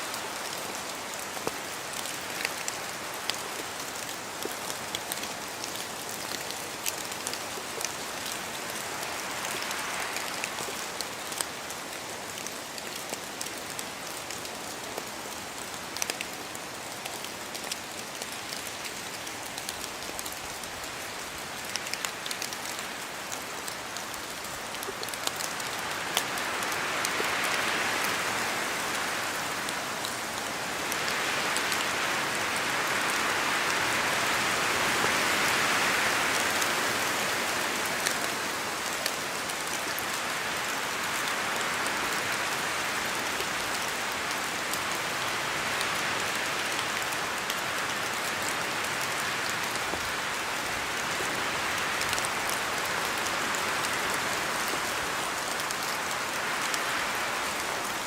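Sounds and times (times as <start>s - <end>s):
rain falling through trees: 0.0s - 58.0s
wind gusts through trees: 0.0s - 58.0s.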